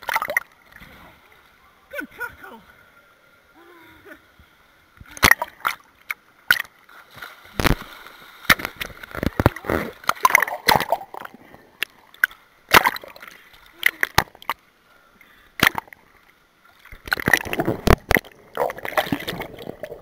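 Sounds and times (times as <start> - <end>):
water gurgling: 0.0 - 2.6, 5.0 - 14.8, 15.6 - 20.0
water splashing: 0.0 - 2.6, 5.0 - 14.6, 15.6 - 20.0.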